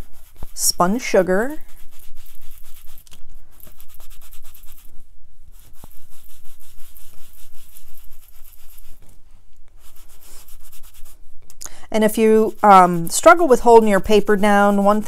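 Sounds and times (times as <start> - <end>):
foam scrubbing on paper: 0.0 - 9.2, 9.8 - 11.3, 12.0 - 15.0.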